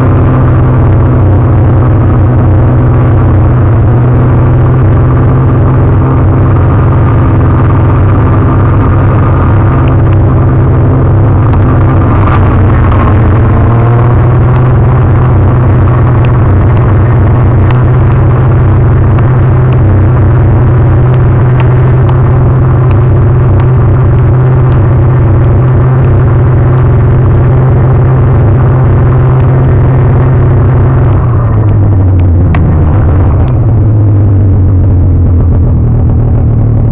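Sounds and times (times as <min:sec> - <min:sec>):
snowmobile engine running: 0:00.0 - 0:36.9.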